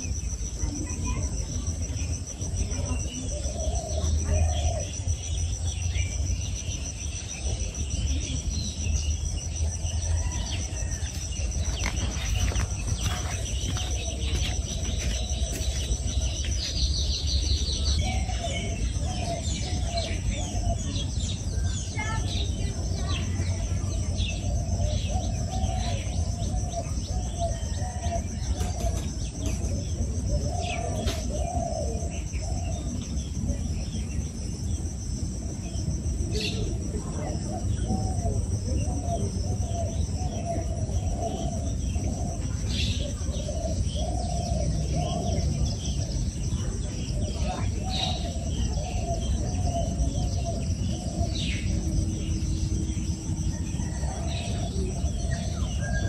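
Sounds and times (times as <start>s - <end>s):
birds chirping: 0.0s - 56.0s
low background rumble: 0.0s - 56.0s.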